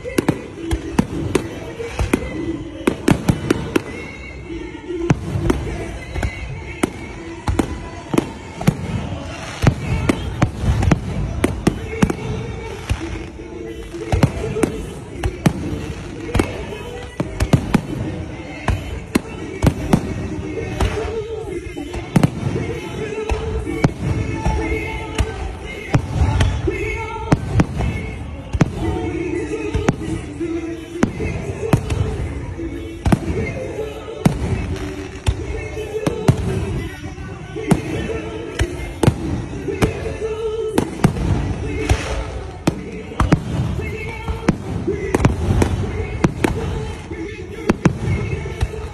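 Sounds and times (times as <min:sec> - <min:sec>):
fireworks bangs: 0:00.0 - 0:48.9
music playing: 0:00.0 - 0:48.9.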